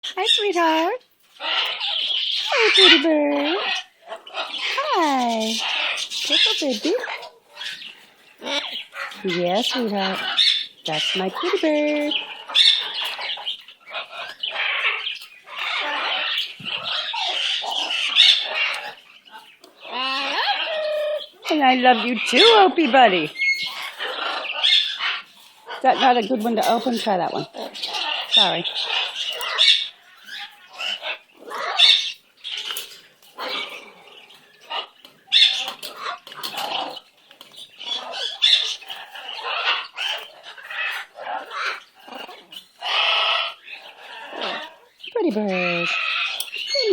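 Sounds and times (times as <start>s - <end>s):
bird squawking: 0.0s - 46.9s.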